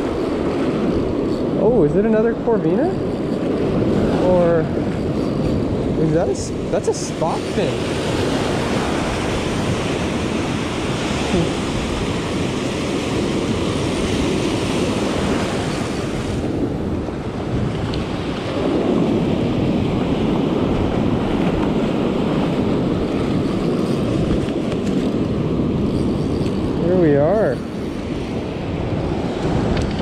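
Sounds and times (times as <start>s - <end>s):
ocean surf breaking: 0.0s - 30.0s
wind buffeting microphone: 0.0s - 30.0s.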